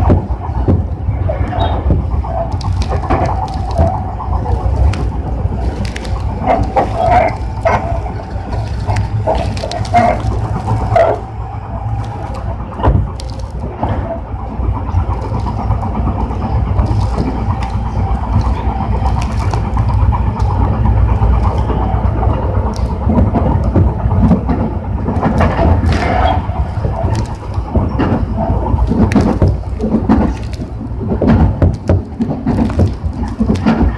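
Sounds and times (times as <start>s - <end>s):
faint steady whine: 0.0s - 33.9s
sharp clicks of train wheels: 0.0s - 33.9s
train wheels rumbling on rail: 0.0s - 33.9s.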